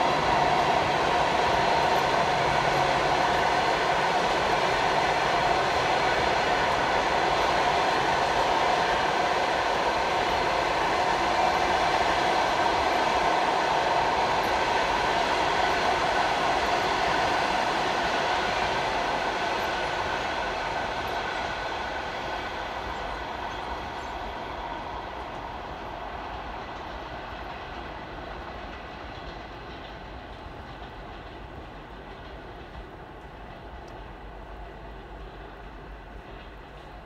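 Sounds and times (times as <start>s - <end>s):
train wheels rumbling past: 0.0s - 37.0s.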